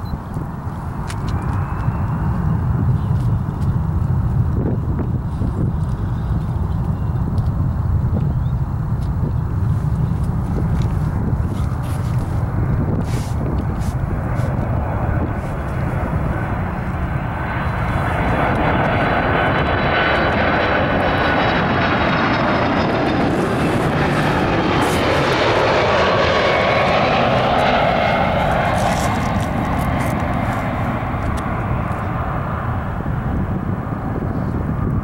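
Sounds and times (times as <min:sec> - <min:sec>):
jet airliner engines roaring: 0:00.0 - 0:35.0.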